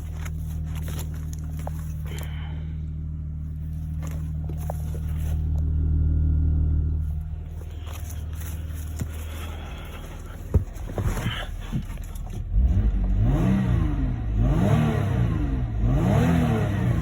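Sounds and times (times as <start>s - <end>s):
car engine running and revving: 0.0s - 17.0s.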